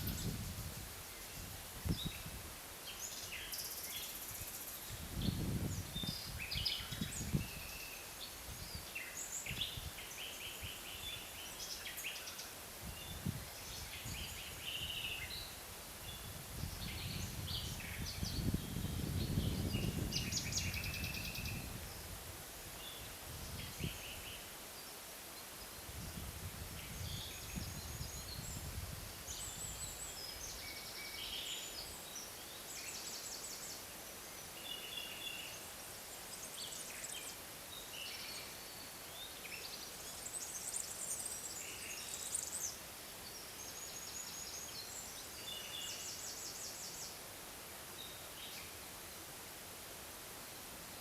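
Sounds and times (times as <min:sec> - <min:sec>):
small birds singing: 0:00.0 - 0:22.2, 0:22.8 - 0:47.2, 0:47.9 - 0:48.8
background hiss: 0:00.0 - 0:51.0.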